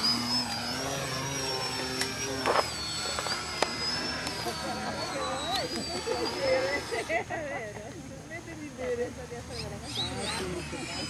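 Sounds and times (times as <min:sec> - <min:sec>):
model plane motor whine: 0:00.0 - 0:11.0.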